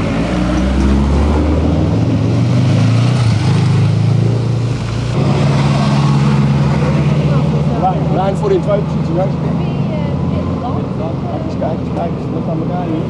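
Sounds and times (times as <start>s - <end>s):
car engines passing: 0.0s - 13.0s.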